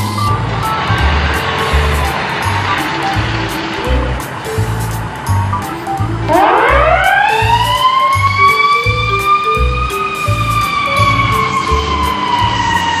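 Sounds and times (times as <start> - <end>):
ambulance siren wailing: 0.0 - 13.0
background music with steady beat: 0.0 - 13.0.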